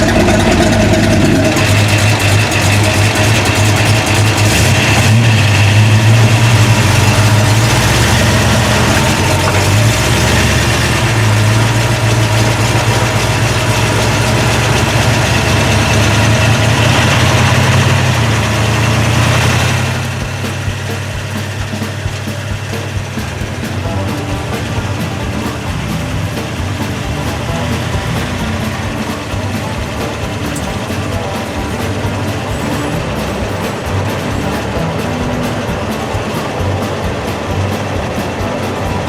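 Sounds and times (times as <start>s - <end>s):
car engine humming: 0.0s - 39.0s.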